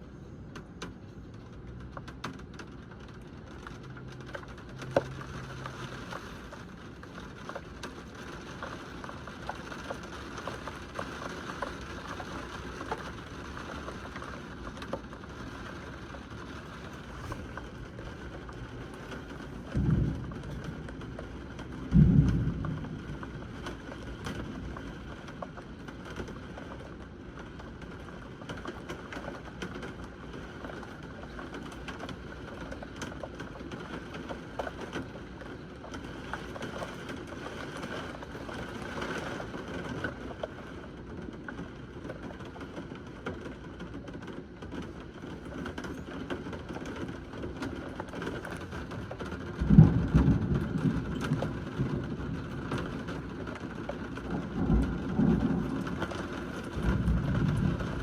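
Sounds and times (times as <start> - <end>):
heavy rain falling: 0.0 - 58.0
thunder clap rumbling: 6.0 - 58.0.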